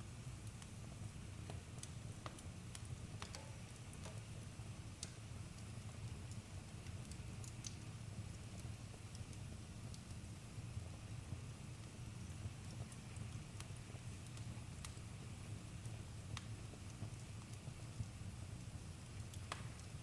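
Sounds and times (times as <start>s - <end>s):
campfire crackling: 0.4s - 20.0s.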